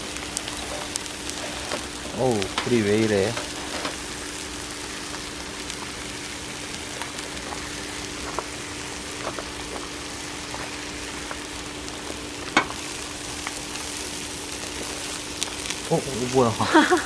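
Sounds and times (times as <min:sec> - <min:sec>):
wood fire hissing and popping: 0:00.0 - 0:17.0.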